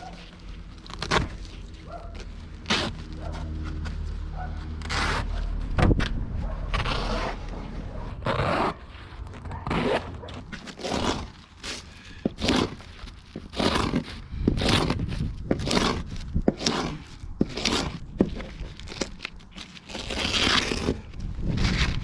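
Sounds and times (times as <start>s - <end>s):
knife scraping through carpet: 0.0s - 3.9s, 4.7s - 5.6s, 6.7s - 22.0s.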